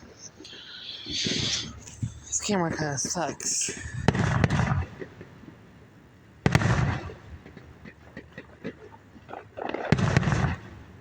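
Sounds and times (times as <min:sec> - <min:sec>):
fireworks bursting with bang: 0:01.0 - 0:05.5, 0:06.4 - 0:11.0.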